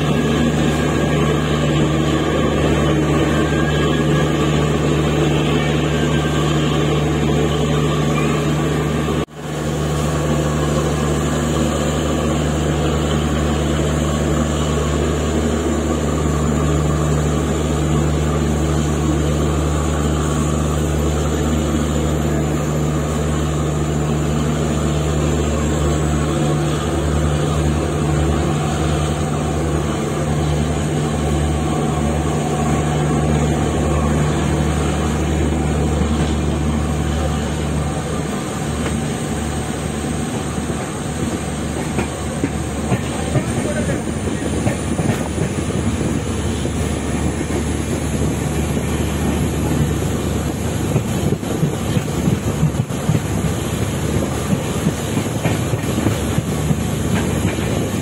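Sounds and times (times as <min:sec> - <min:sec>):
train running on board: 0:00.0 - 0:58.0.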